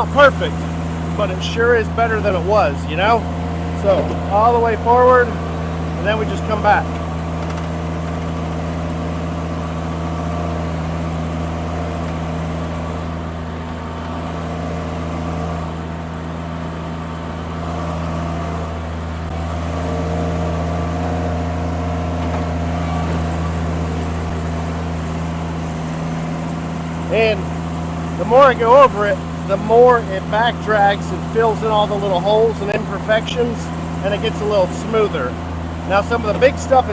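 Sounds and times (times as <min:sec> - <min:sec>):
skid steer engine running: 0:00.0 - 0:36.9.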